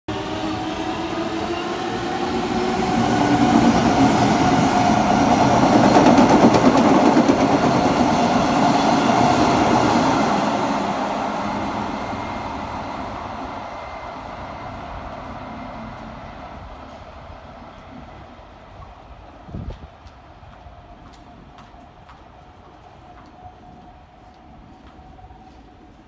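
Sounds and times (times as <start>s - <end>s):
train passing at speed: 0.1s - 26.0s.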